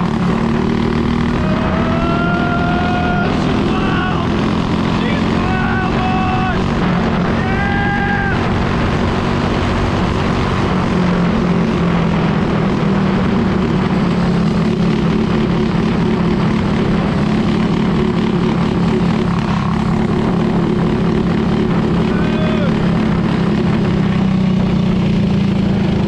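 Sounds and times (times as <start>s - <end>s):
go-kart engine running hard: 0.0s - 26.0s.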